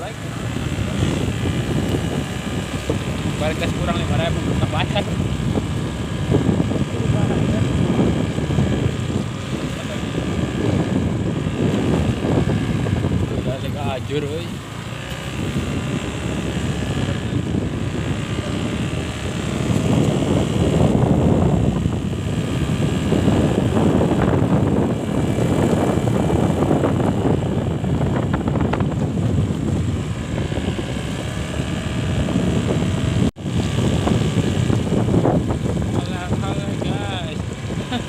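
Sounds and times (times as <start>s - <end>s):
motorbike engine rumble: 0.0s - 38.0s
wind buffeting microphone: 0.0s - 38.0s.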